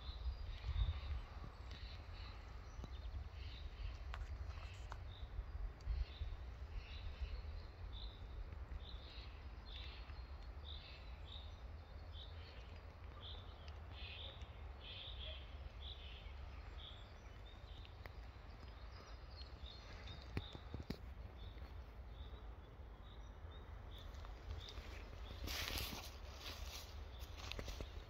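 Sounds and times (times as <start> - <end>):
songbird chirping: 0.0 - 28.0.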